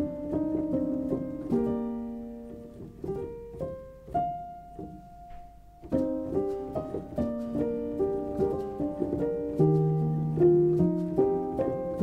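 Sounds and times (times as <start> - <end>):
gentle solo piano: 0.0 - 12.0.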